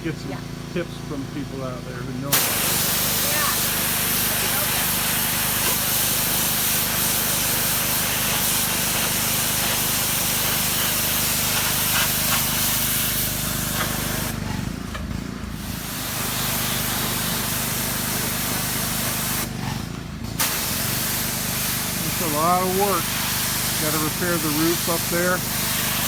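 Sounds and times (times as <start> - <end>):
pressure washer motor humming: 0.0 - 26.0
water jet hissing: 2.3 - 14.4, 15.5 - 19.6, 20.4 - 26.0.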